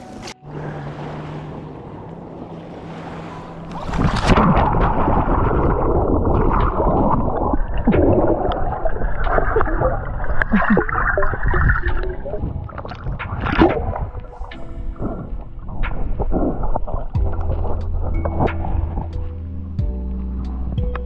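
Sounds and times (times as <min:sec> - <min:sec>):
muffled underwater water gurgling: 0:00.0 - 0:21.0.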